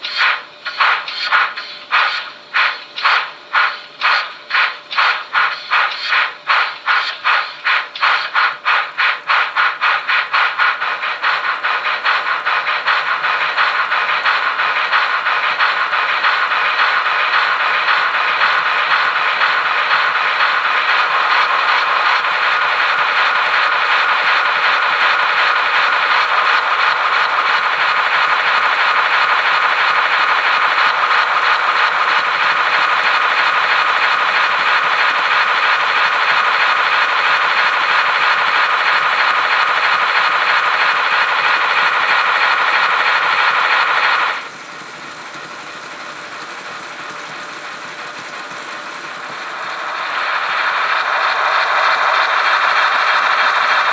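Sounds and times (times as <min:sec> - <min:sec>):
model locomotive rattling: 0:00.0 - 0:53.9.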